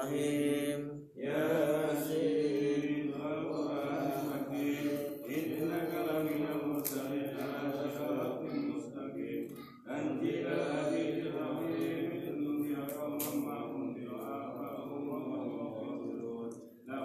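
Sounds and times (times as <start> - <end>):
man chanting through loudspeaker: 0.0 - 17.0.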